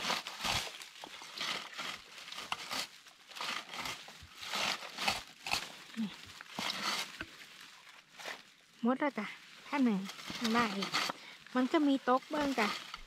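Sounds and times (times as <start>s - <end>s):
berry picker rasping through bushes: 0.0s - 13.0s.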